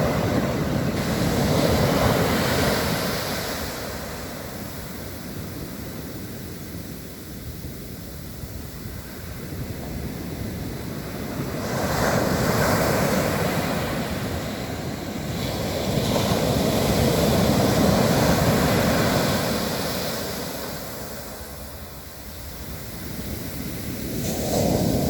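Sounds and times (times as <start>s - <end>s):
waves breaking on beach: 0.0s - 7.0s, 9.0s - 25.0s.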